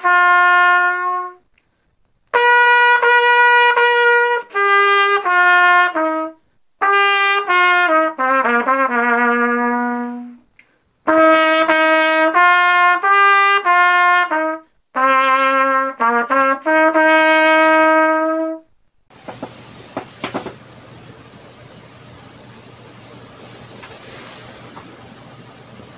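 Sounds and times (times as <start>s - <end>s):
trumpet playing slow melody: 0.0s - 1.4s, 2.3s - 25.9s
faint steady hiss: 0.0s - 25.9s.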